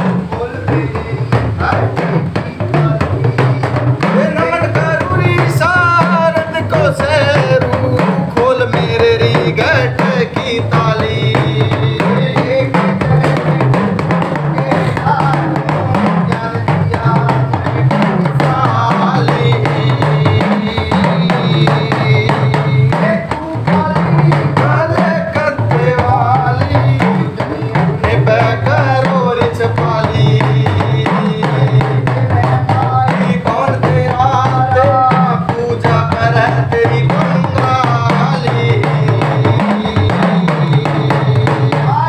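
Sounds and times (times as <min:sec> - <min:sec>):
hand drums playing fast rhythm: 0:00.0 - 0:42.0
person singing: 0:00.0 - 0:42.0.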